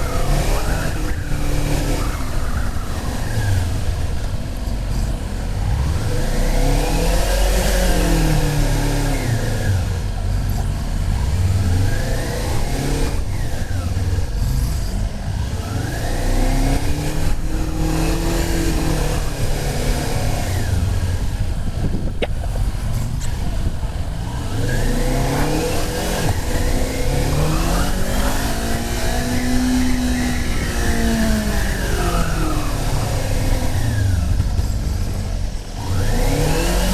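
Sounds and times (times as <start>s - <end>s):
motorcycle engine shifting gears: 0.0s - 36.9s.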